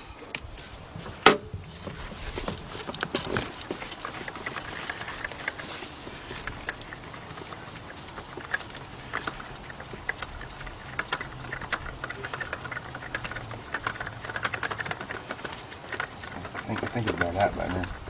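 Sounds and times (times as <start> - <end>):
metallic ticks and taps: 1.0 - 18.0.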